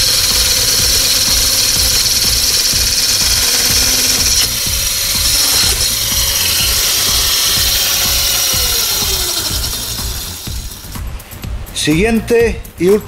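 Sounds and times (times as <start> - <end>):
electric saw cutting branch whine: 0.0 - 11.0.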